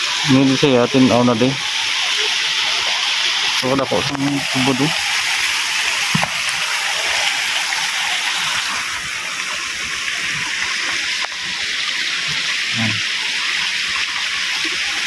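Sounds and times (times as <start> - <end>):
water rushing over stones: 0.0 - 15.0.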